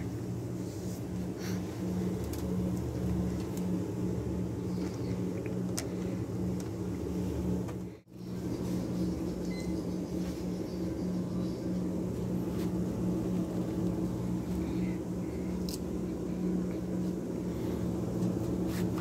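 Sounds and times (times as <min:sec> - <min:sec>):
refrigerated display cases humming: 0:00.0 - 0:19.0.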